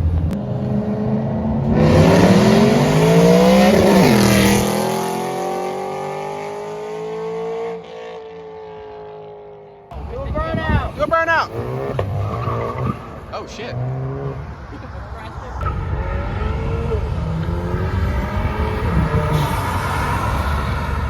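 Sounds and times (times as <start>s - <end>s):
car engine accelerating: 0.0s - 10.4s, 11.1s - 21.0s.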